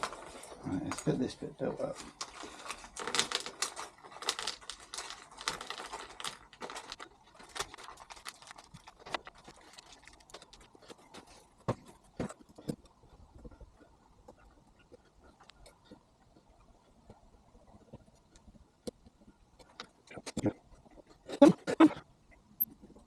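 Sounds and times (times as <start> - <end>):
small parts rustling and clicking: 0.0 - 21.4.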